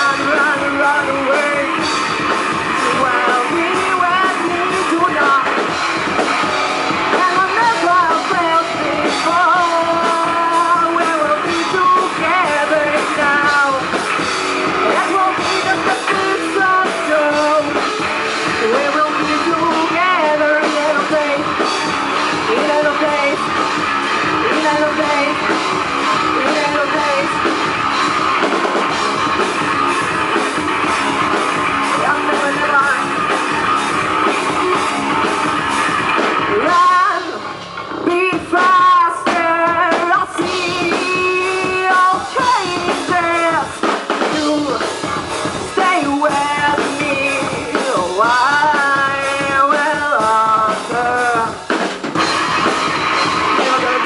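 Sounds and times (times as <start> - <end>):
person singing: 0.0 - 54.0
rock band playing live: 0.0 - 54.0.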